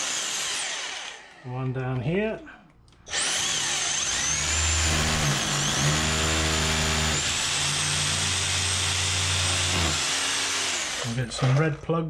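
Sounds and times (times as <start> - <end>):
hammer drill boring masonry: 0.0 - 1.5, 3.1 - 12.0.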